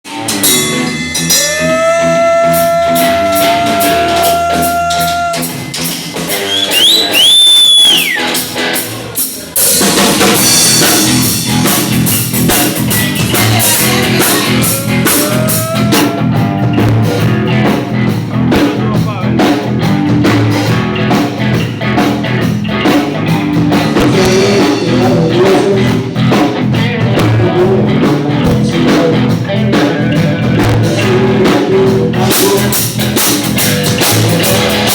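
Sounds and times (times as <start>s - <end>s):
drums driving beat: 0.0s - 34.9s
rock band playing: 0.0s - 34.9s
electric guitar bent notes: 0.1s - 34.9s.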